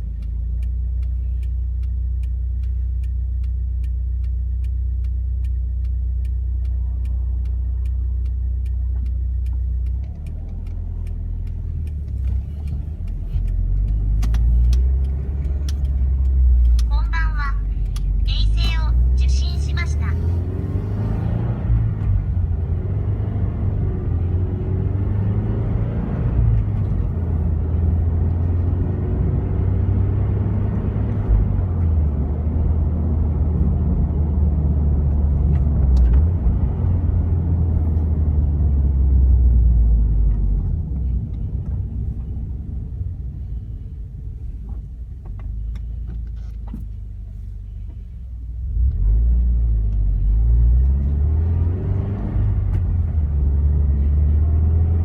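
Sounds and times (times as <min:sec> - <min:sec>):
car engine drone from inside cabin: 0:00.0 - 0:55.0.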